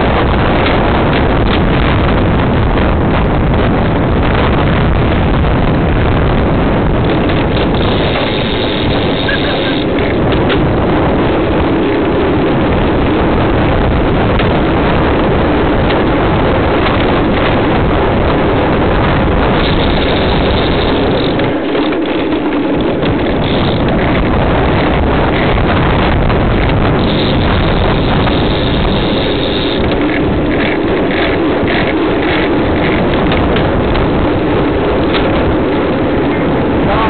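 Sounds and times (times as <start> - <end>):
road noise: 0.0 - 37.0
wind rushing over microphone: 0.0 - 37.0.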